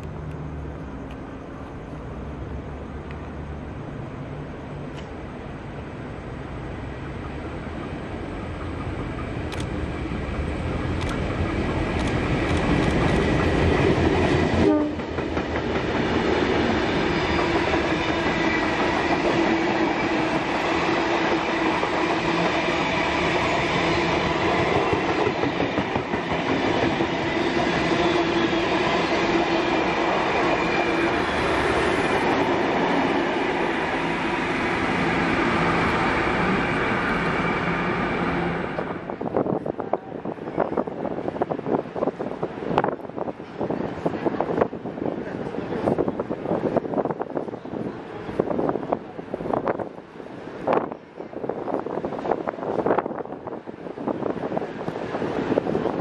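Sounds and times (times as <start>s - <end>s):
electric train running on rails: 0.0s - 56.0s
train whine: 0.0s - 56.0s.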